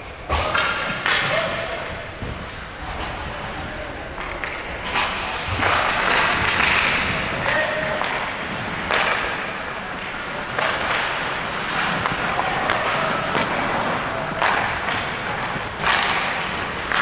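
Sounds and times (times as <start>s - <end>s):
steady noisy background: 0.0s - 17.0s
hockey sticks and puck knocking: 0.3s - 3.2s, 4.1s - 17.0s.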